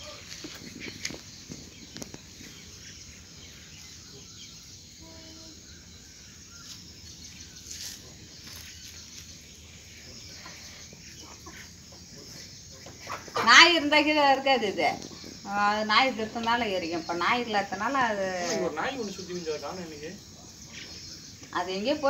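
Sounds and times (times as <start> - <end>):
steady low hiss: 0.0 - 22.0.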